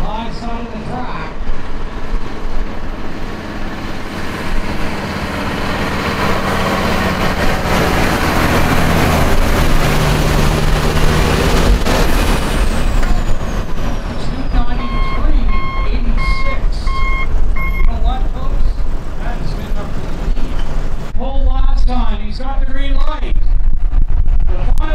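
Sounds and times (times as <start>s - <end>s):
truck diesel engine passing: 0.0s - 21.2s.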